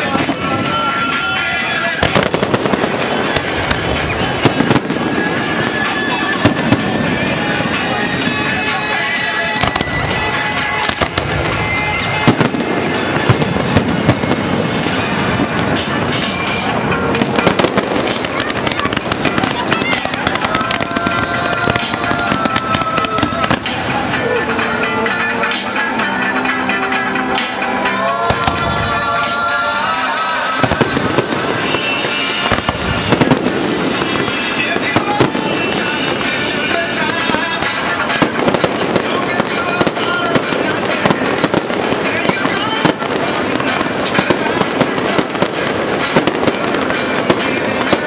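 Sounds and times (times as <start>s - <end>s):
fireworks bangs and crackling: 0.0s - 48.0s
pop music with steady beat: 0.0s - 48.0s.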